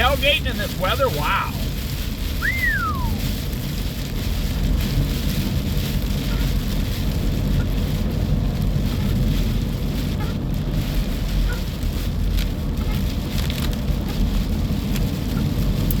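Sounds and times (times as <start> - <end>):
rain hitting windshield: 0.0 - 16.0
vehicle road rumble: 0.0 - 16.0.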